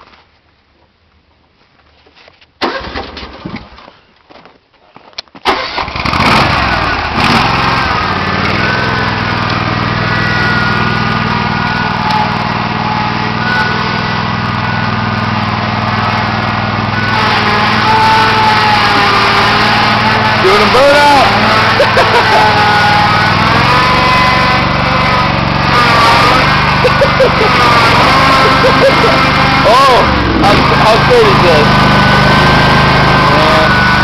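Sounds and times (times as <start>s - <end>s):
mower engine starting and running: 2.6s - 3.6s, 5.4s - 34.0s.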